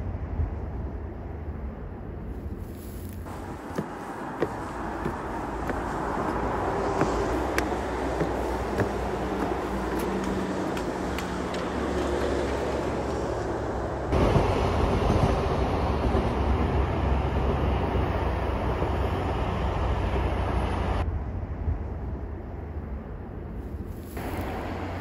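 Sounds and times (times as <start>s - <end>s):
outdoor ambience: 0.0s - 25.0s
train passing rumble: 0.0s - 25.0s.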